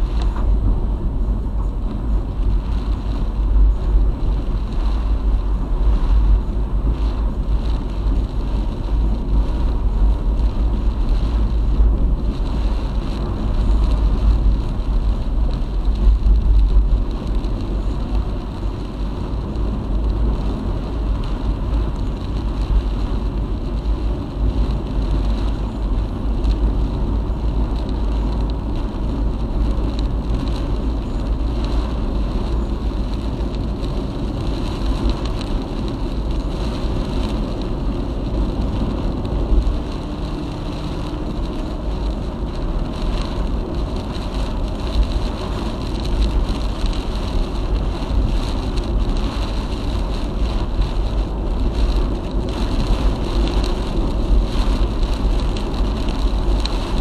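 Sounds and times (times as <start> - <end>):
car tyres and engine rumble: 0.0 - 57.0
strong wind: 0.0 - 57.0.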